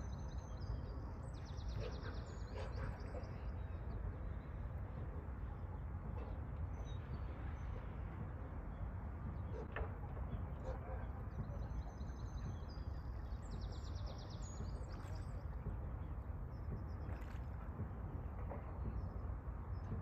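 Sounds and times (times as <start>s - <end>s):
songbirds chirping: 0.0s - 20.0s
wind rumble on microphone: 0.0s - 20.0s.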